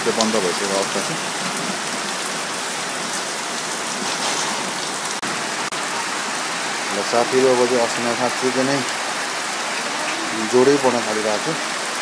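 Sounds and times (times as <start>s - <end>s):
heavy rain pouring on street: 0.0s - 12.0s.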